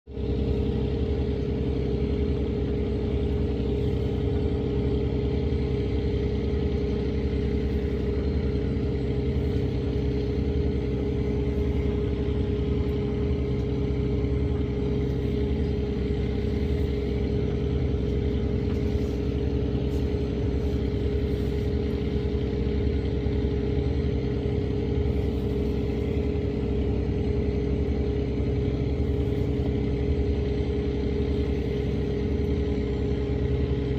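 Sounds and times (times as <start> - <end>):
steady motor hum: 0.1 - 33.9.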